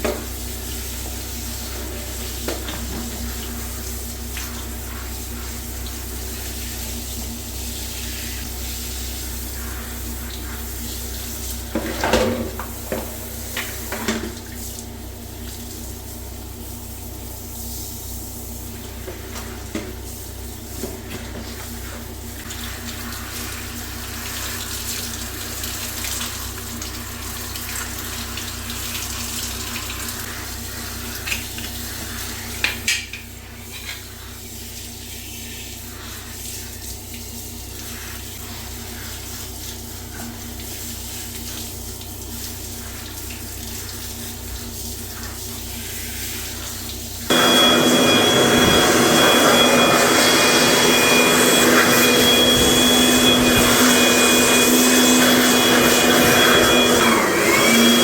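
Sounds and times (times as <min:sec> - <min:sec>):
water running from a tap: 0:00.0 - 0:47.4.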